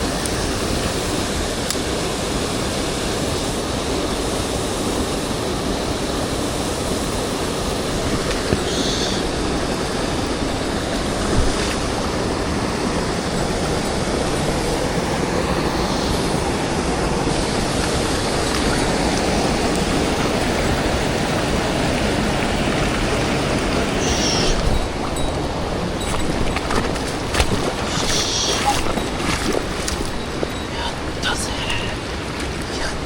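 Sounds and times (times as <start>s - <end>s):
stream rushing over rocks: 0.0s - 33.0s.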